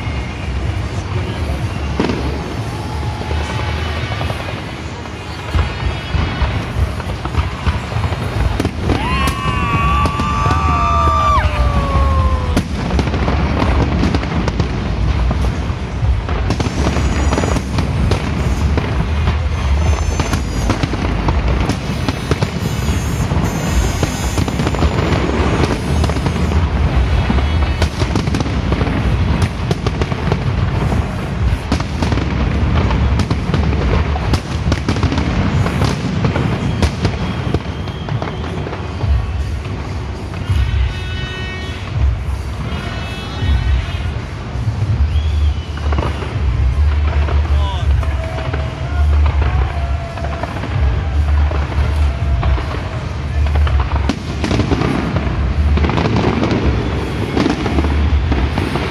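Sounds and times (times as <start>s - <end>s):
fireworks booming and crackling: 0.0s - 58.9s
music playing: 0.0s - 58.9s.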